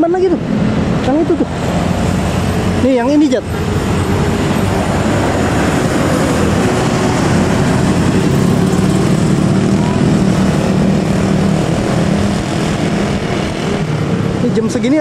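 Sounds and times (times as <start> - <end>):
bus engine drone: 0.0 - 15.0
road traffic passing: 0.0 - 15.0.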